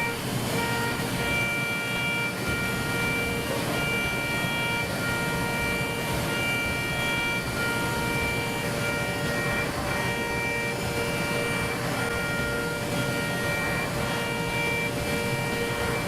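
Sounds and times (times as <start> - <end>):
high spindle tones: 0.0 - 16.0
milling machine cutting metal: 0.0 - 16.0.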